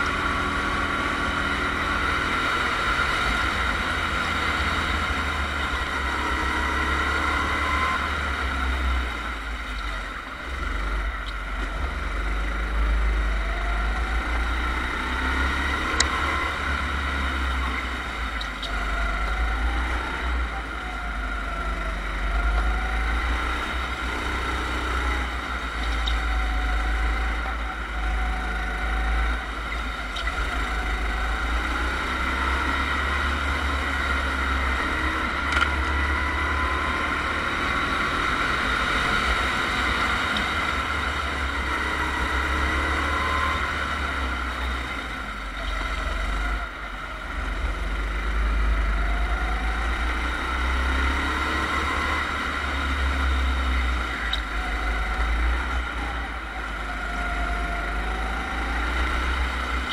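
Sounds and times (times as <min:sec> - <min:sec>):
go-kart engine: 0:00.0 - 0:59.9.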